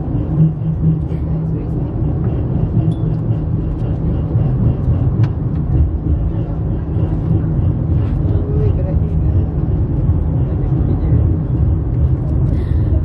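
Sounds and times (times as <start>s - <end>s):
funicular car rumbling on rails: 0.0s - 13.0s.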